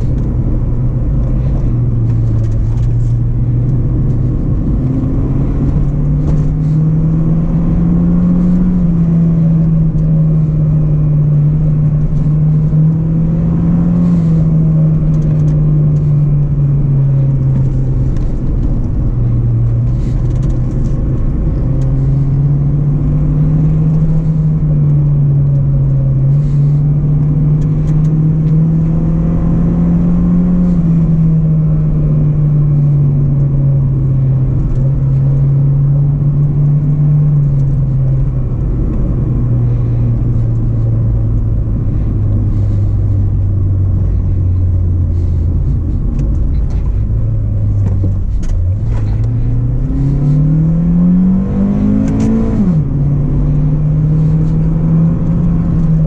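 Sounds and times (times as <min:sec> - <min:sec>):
car engine running under load: 0:00.0 - 0:56.0.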